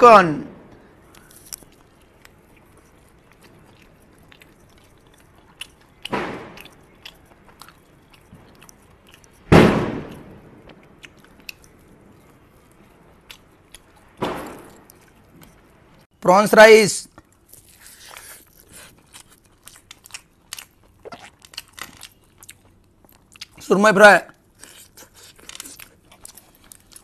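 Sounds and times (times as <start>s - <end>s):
man chewing chicken: 1.0s - 16.1s, 17.1s - 23.7s, 24.3s - 27.0s.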